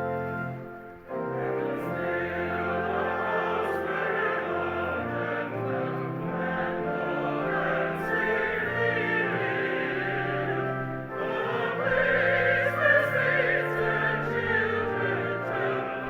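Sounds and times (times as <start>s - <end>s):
choir and congregation singing hymn: 0.0s - 16.0s.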